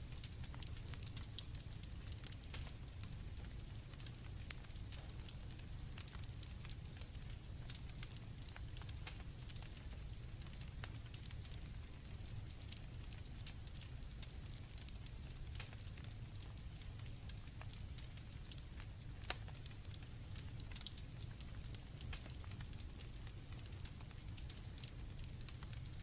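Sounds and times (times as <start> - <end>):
campfire crackling and popping: 0.0 - 26.0
crickets trilling: 0.0 - 26.0.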